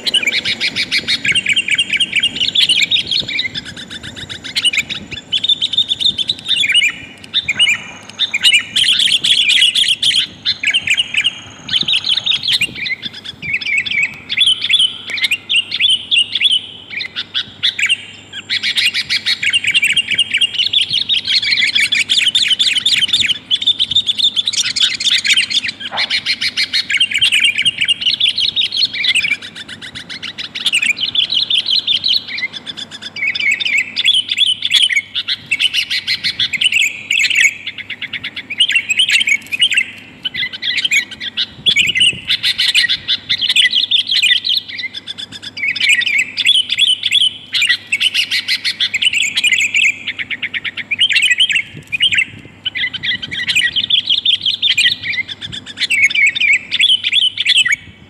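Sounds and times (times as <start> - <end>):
bulbul chattering call: 0.0 - 57.8.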